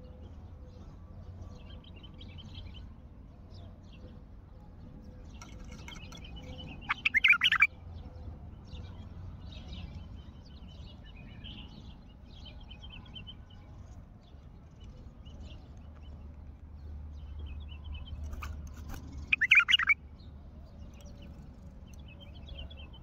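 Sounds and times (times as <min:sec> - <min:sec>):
bird singing: 0:00.0 - 0:23.0
soft bird chirps: 0:00.0 - 0:23.0.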